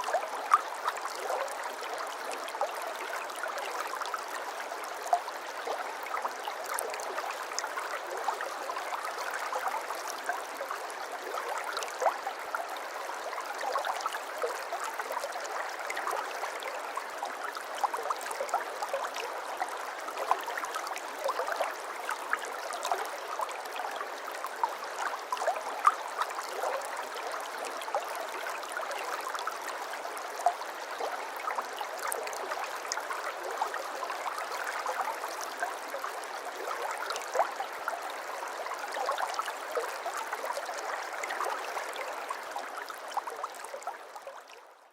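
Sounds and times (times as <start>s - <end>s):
stream babbling over stones: 0.0s - 44.6s.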